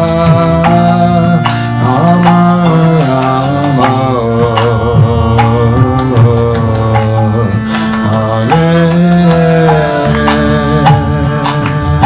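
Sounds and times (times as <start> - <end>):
harmonium chords: 0.0 - 12.0
man chanting a melody: 0.0 - 12.0
percussion beat: 0.0 - 12.0.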